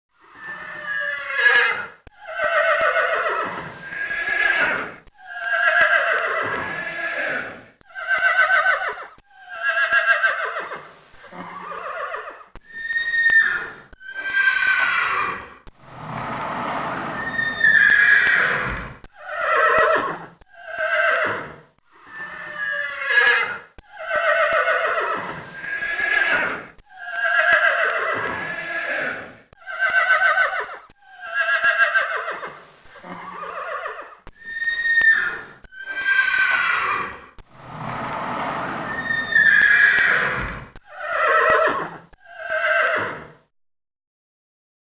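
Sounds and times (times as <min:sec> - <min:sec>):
horse whinnying: 0:00.3 - 0:43.4.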